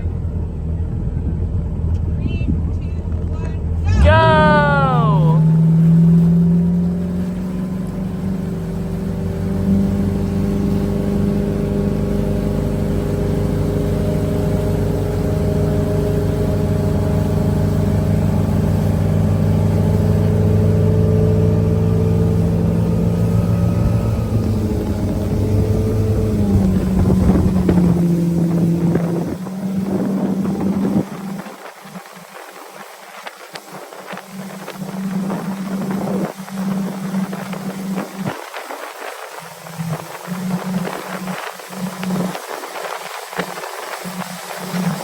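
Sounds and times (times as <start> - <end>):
motorboat engine droning: 0.0 - 45.0.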